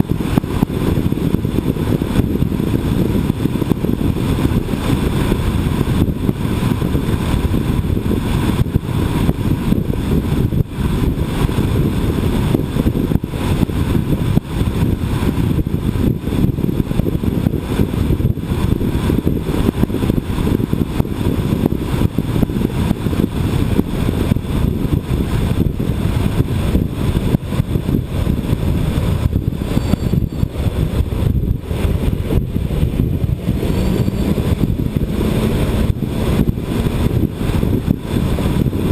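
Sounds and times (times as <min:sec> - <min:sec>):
road and wind rumble: 0:00.0 - 0:38.9.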